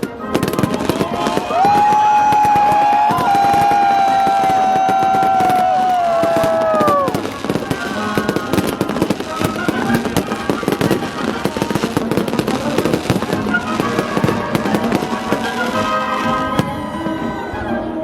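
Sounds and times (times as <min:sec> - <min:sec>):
fireworks bangs and crackles: 0:00.0 - 0:17.8
military song playing: 0:00.0 - 0:18.0.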